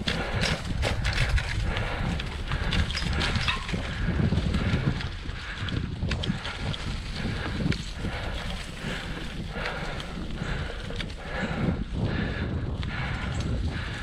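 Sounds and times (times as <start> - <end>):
bicycle rattling over bumps: 0.0 - 14.0
wind buffeting microphone: 0.0 - 14.0.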